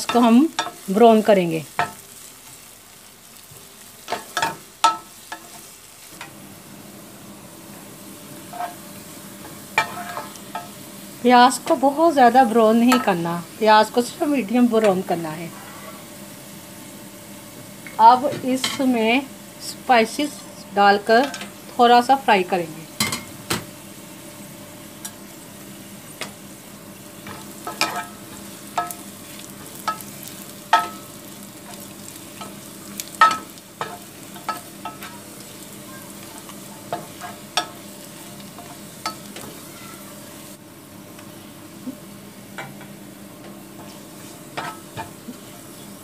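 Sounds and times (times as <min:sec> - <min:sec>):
onions sizzling in a pan: 0:00.0 - 0:46.0.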